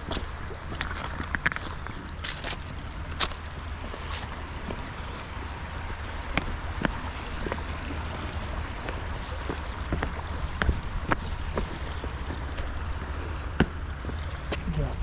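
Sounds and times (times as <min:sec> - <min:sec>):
footsteps splashing on stones: 0:00.0 - 0:14.8
creek running: 0:00.0 - 0:15.0.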